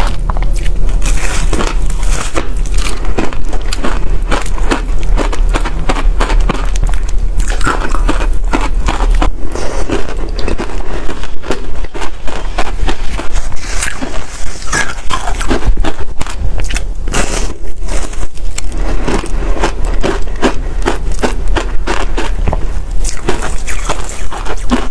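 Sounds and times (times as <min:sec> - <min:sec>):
frost being chewed crunching: 0:00.0 - 0:24.9.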